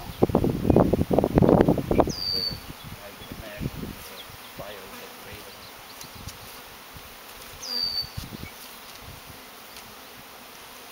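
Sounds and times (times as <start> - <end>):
bees buzzing: 0.0 - 10.9.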